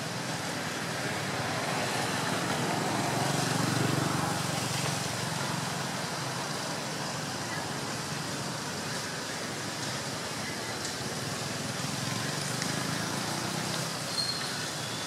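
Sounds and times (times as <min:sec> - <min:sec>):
outdoor rumble with hiss: 0:00.0 - 0:15.0.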